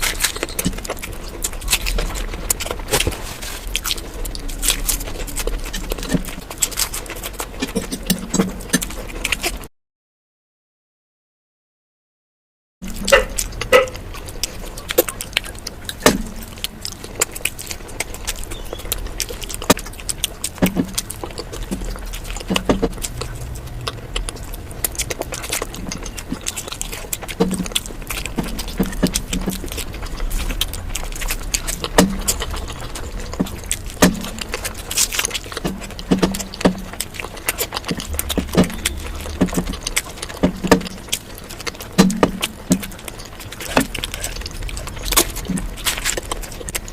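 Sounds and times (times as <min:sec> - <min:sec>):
person chewing crunchy food: 0:00.0 - 0:09.7, 0:12.8 - 0:46.9.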